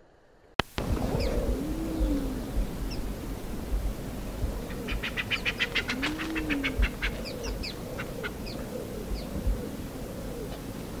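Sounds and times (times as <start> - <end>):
soft low bird notes: 0.8 - 11.0
bird calling: 1.0 - 11.0.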